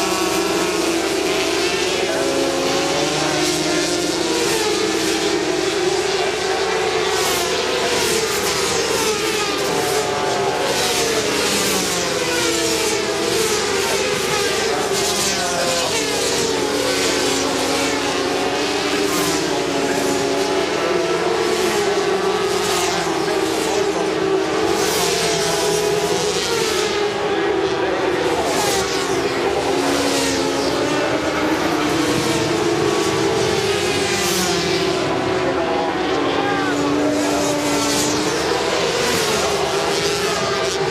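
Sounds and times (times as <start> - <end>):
racing motorcycles revving: 0.0 - 40.9.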